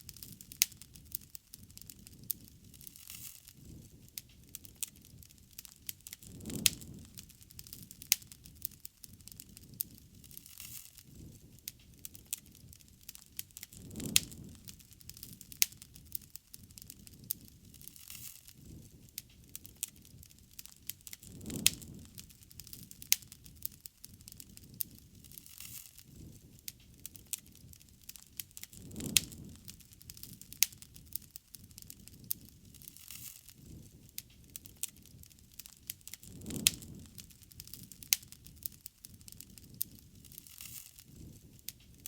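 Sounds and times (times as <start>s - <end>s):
bonfire crackling: 0.0s - 42.0s
fire pops and snaps: 0.0s - 42.0s.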